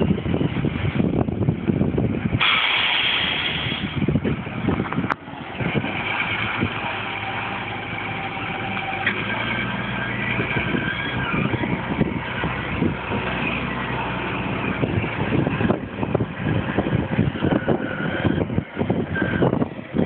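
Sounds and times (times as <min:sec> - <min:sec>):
diesel truck engine running: 0:00.0 - 0:20.0
uneven buffeting noise: 0:00.0 - 0:20.0.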